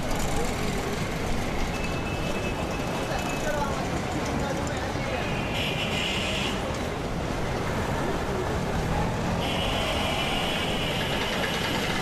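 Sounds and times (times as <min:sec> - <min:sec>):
busy street traffic: 0:00.0 - 0:12.0
motorcycles and rickshaws passing: 0:00.0 - 0:12.0.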